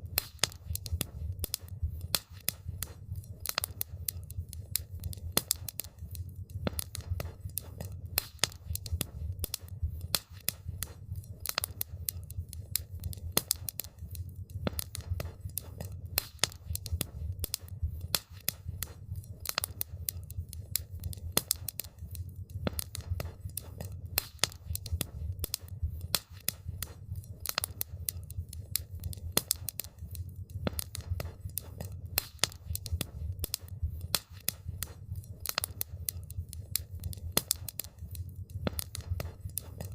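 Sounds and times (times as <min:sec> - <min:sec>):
campfire crackling: 0:00.0 - 0:39.9
low rumble of burning fire: 0:00.0 - 0:39.9.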